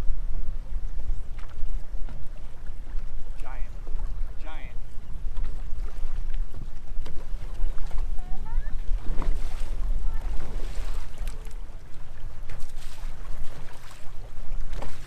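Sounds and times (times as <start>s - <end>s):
water slapping against a boat: 0.0s - 15.0s
wind buffeting microphone: 0.0s - 15.0s.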